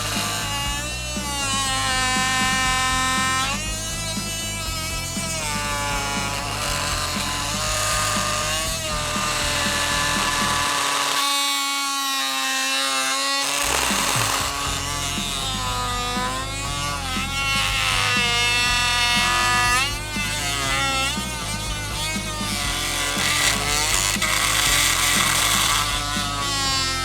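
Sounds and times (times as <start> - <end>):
music with a steady beat: 0.0 - 11.2, 13.5 - 27.0
oscillating multi-tool cutting: 0.0 - 27.0.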